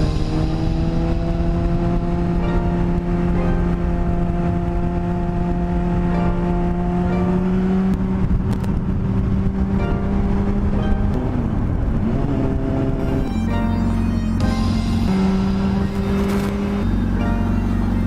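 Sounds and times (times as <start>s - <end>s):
motorcycle engine cruising: 0.0s - 18.0s
wind and road rumble: 0.0s - 18.0s.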